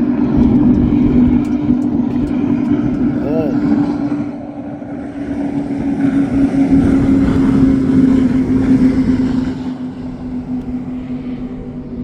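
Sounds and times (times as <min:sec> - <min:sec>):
powerboat engines passing: 0:00.0 - 0:12.0.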